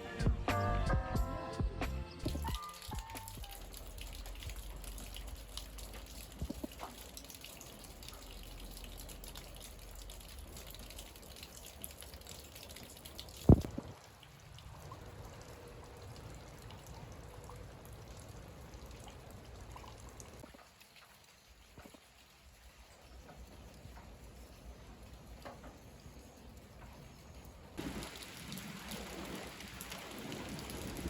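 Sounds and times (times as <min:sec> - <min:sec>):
water dripping and trickling: 0:02.2 - 0:31.0.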